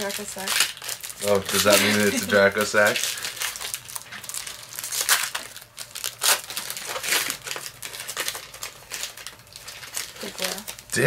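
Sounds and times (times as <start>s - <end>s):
foil wrappers crinkling: 0.0s - 11.0s.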